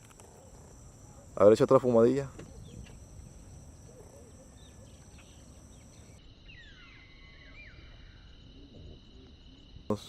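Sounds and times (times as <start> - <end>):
bird calls: 0.0 - 8.4
insects trilling: 0.0 - 10.0.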